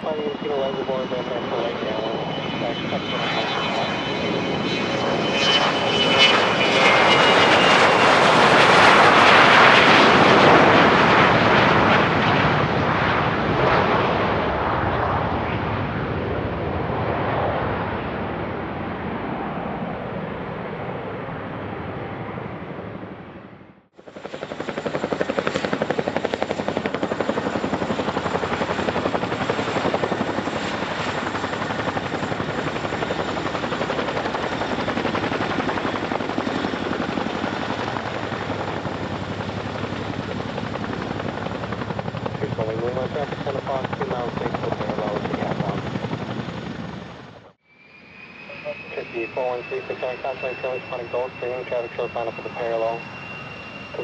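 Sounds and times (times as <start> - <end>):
aircraft engine noise: 0.0 - 54.0
jet engines roaring with whine: 0.0 - 54.0.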